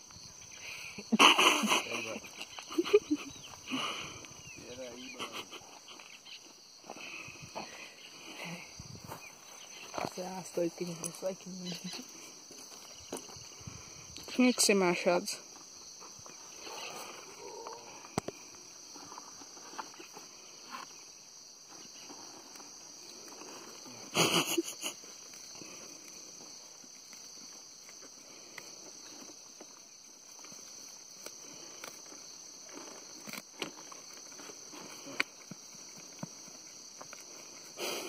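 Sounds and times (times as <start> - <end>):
crickets chirring: 0.0 - 38.0.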